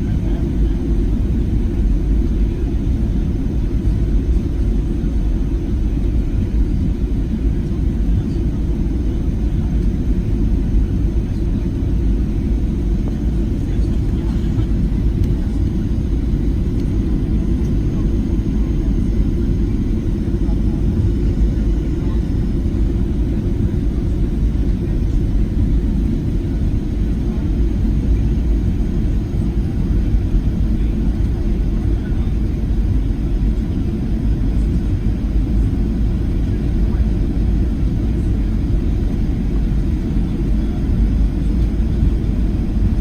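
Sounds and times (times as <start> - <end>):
airliner cabin low rumble: 0.0 - 43.0.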